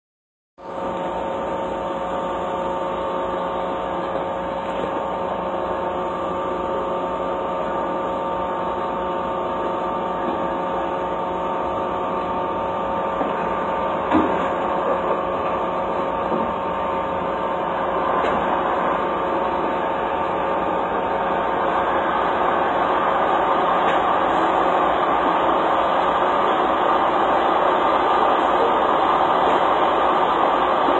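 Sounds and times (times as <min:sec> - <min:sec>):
steady mechanical hum: 0:00.6 - 0:30.9.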